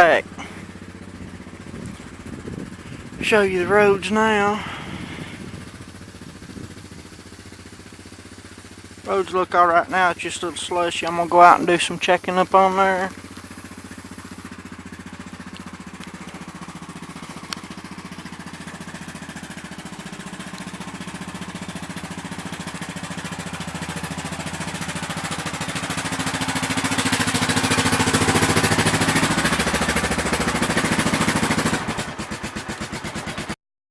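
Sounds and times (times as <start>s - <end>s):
engine running: 0.0s - 33.6s.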